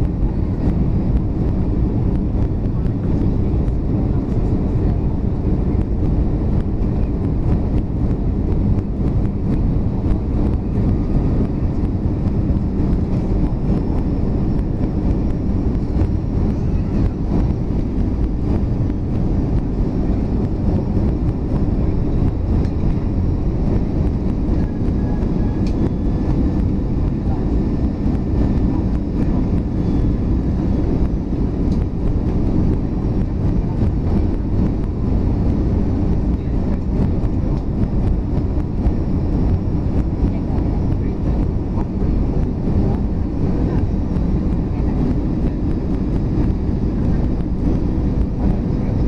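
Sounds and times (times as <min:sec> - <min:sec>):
engine rumble and rushing air: 0:00.0 - 0:49.0
faint high whine: 0:00.0 - 0:49.0.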